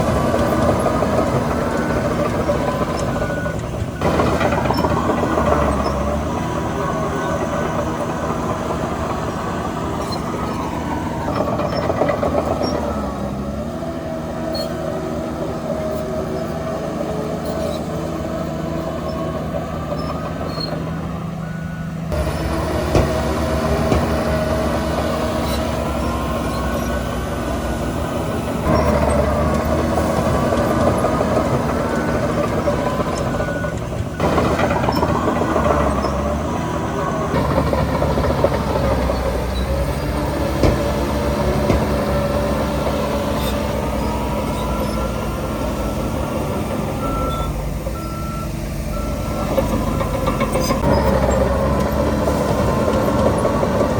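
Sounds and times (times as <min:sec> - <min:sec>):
heavy machinery diesel engine: 0:00.0 - 0:53.9
high squealing tones: 0:00.5 - 0:15.2, 0:15.8 - 0:22.5, 0:23.3 - 0:53.8.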